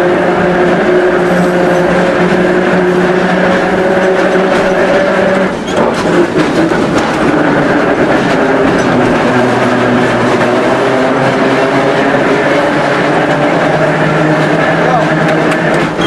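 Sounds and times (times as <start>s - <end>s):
tram running gear hum: 0.0s - 16.0s
tram wheel clacks over track: 0.0s - 16.0s.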